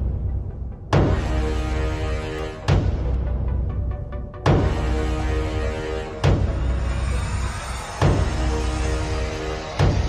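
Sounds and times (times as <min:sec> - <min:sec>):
dramatic intro music: 0:00.0 - 0:10.0.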